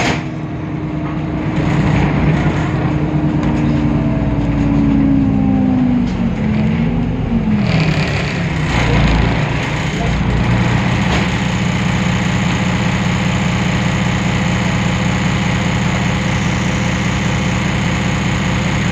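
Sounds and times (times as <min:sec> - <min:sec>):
diesel bus engine idling: 0:00.0 - 0:18.9.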